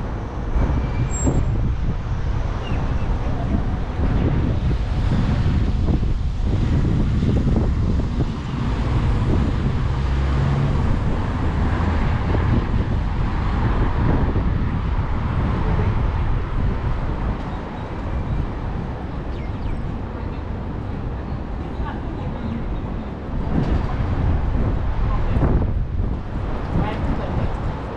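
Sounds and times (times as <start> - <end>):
city street traffic: 0.0 - 27.9
wind buffeting microphone: 0.0 - 27.9.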